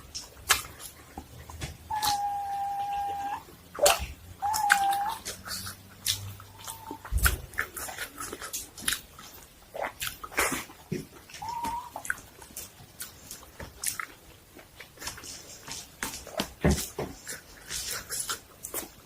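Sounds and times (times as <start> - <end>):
chewing crunchy food: 0.0 - 2.3, 3.7 - 19.0
wet eating smacks: 0.1 - 2.2, 3.7 - 19.0.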